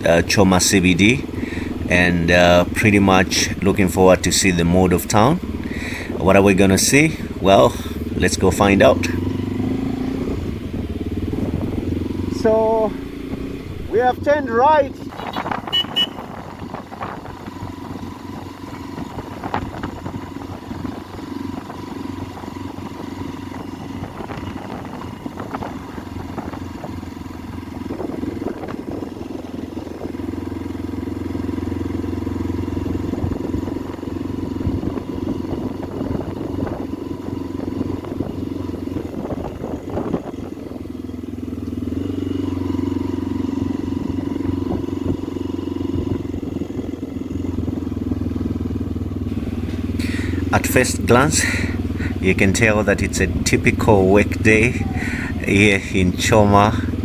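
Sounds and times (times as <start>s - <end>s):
motorcycle engine humming: 0.0s - 57.0s.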